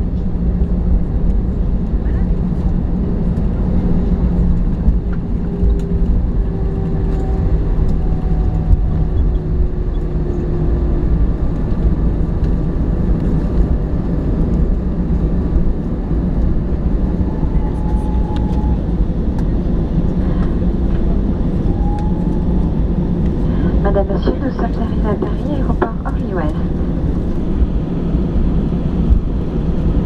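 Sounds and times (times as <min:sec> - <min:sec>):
jet engine rumble in cabin: 0:00.0 - 0:30.0.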